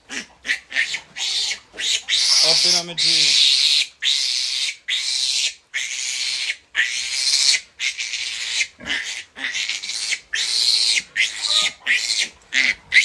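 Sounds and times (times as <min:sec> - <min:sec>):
piglet squealing: 0:00.1 - 0:13.0.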